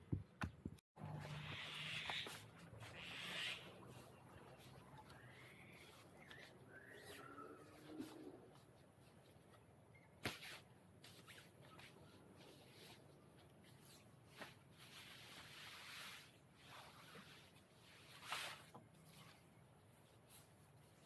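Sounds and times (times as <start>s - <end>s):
fabric rustling and swishing: 3.8s - 21.0s.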